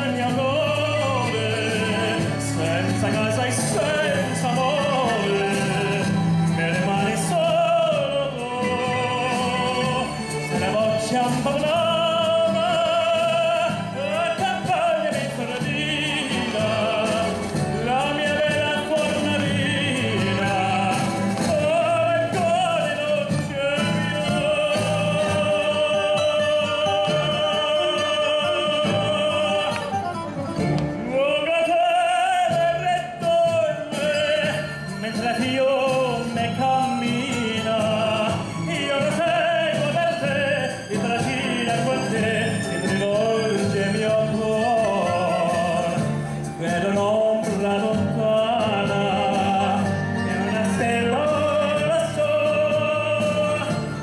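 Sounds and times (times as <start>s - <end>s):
man singing a ballad: 0.0s - 30.2s, 30.9s - 54.0s
amplified instrumental accompaniment: 0.0s - 54.0s.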